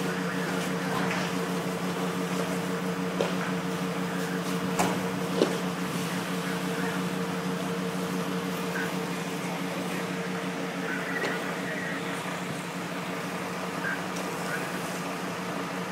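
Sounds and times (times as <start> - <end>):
machine hum: 0.0 - 15.9.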